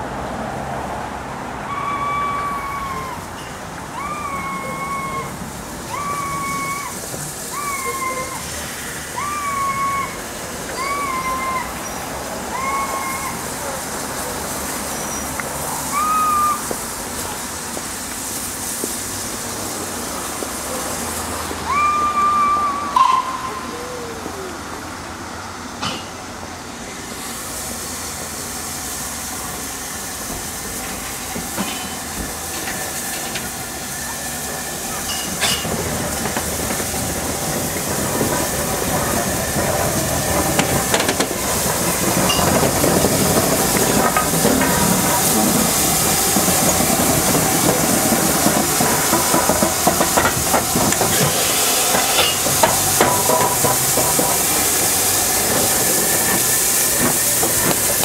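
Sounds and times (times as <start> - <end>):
steam locomotive hissing steam: 0.0 - 58.0.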